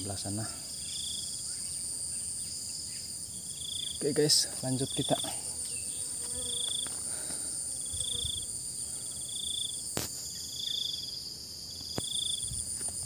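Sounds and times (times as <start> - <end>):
buzzing insect chirp: 0.0 - 13.0
insect drone: 0.0 - 13.0.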